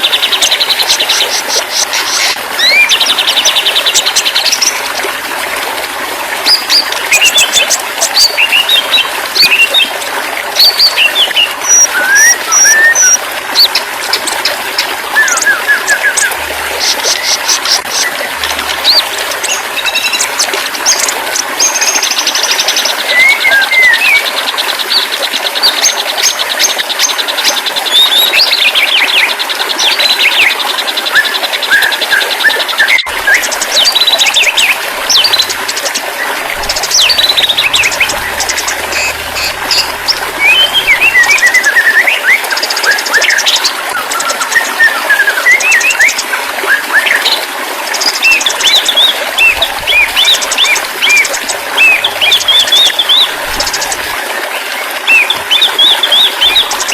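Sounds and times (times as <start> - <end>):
bird song whistles and trills: 0.0 - 4.8, 6.4 - 9.9, 10.5 - 14.5, 15.1 - 56.9.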